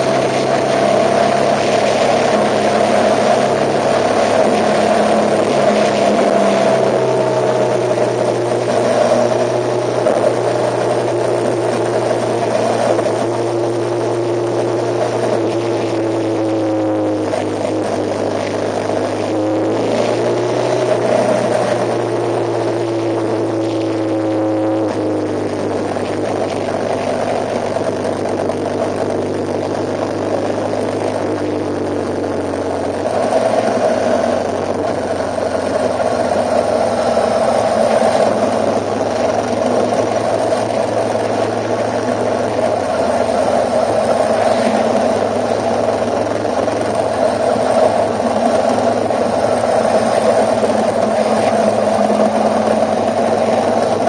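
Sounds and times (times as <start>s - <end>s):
vehicle engine humming: 0.0s - 54.0s
whining tone: 0.0s - 54.0s.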